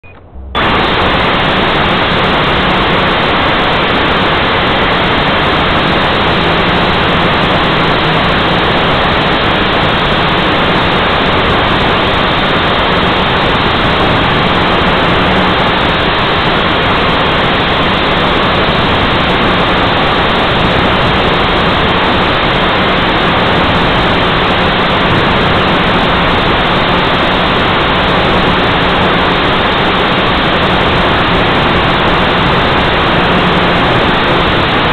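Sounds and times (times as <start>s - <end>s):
drone propellers rushing: 0.0s - 34.9s.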